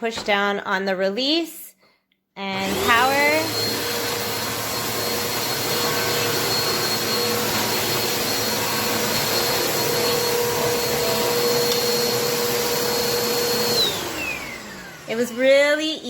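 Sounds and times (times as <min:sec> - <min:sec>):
vacuum cleaner running: 0:02.5 - 0:16.0.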